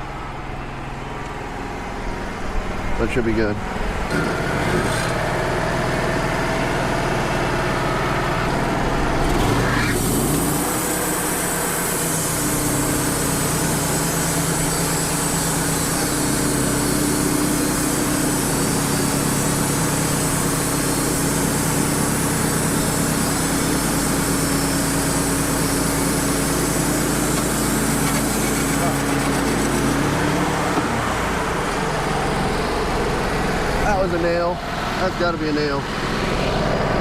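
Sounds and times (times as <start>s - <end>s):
steady hum: 0.0s - 37.0s
band sawmill cutting log: 4.0s - 37.0s.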